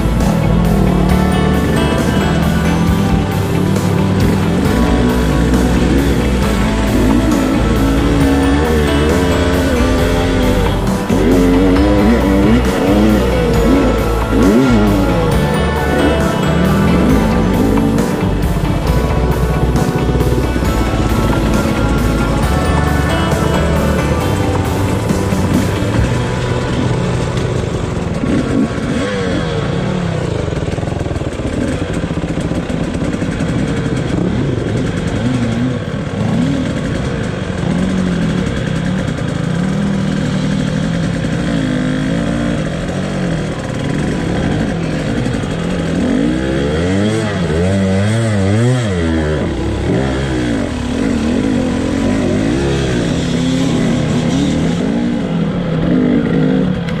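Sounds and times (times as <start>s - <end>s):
vehicle engines revving: 0.0s - 57.0s.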